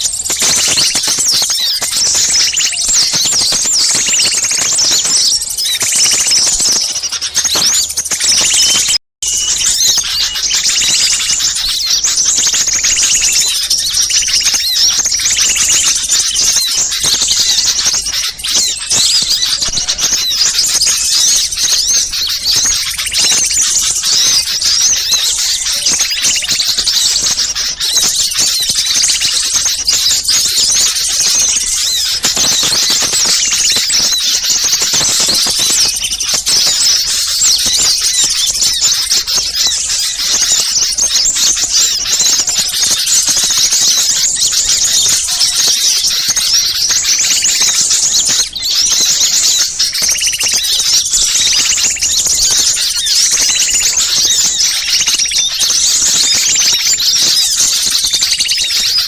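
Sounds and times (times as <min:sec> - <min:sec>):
flock of small birds chattering: 0:00.0 - 0:59.0.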